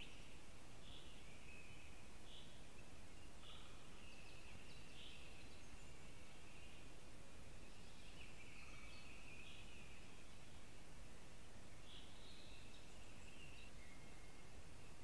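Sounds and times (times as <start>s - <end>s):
songbirds singing: 0.0s - 15.0s
steady hiss: 0.0s - 15.0s.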